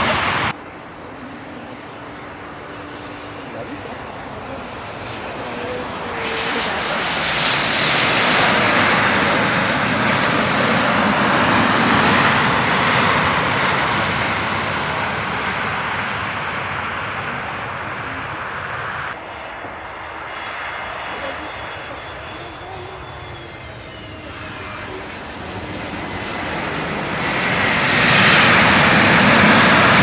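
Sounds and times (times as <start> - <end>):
airliner engines roaring: 0.0 - 30.0.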